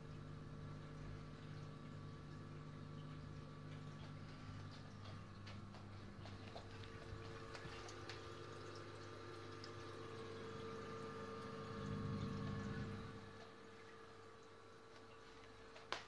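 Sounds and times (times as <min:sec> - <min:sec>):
pumps humming: 0:00.0 - 0:16.0
small drip ticks: 0:00.0 - 0:16.0
water trickling and dripping: 0:00.0 - 0:16.0.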